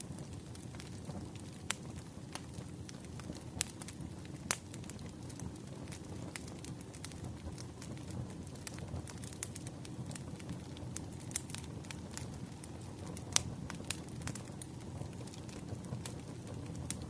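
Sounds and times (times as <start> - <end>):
burning wood crackling and popping: 0.0 - 17.0
campfire flames rumbling: 0.0 - 17.0.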